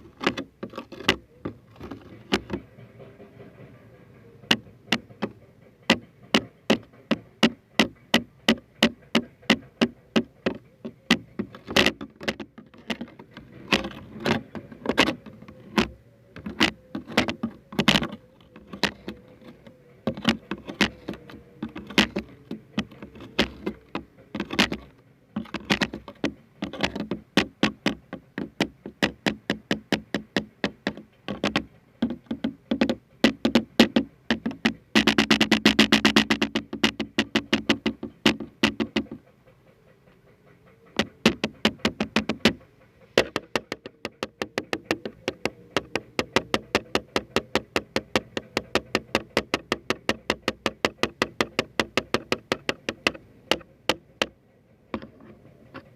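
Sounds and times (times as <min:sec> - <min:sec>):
rapid sharp tapping: 0:04.5 - 0:55.9.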